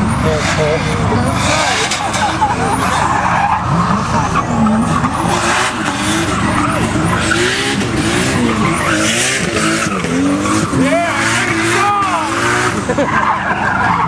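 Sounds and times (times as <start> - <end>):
car engine revving hard: 0.0 - 14.0
tyres squealing: 0.0 - 14.0.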